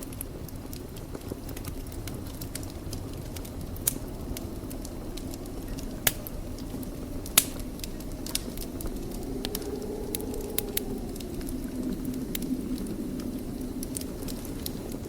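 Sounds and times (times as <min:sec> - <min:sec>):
fire burning in a fireplace: 0:00.0 - 0:15.0.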